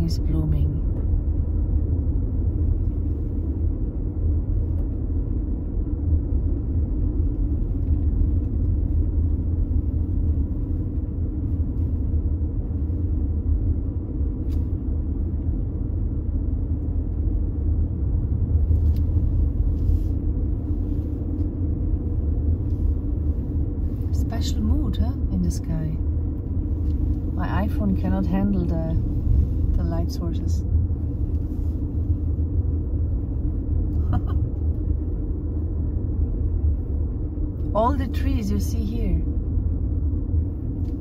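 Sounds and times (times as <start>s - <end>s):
car engine and tyre noise: 0.0s - 41.0s.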